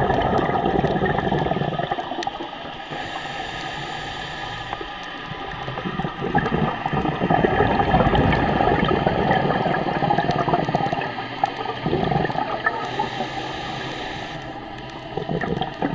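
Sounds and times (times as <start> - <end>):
underwater bubbles gurgling: 0.0 - 15.9.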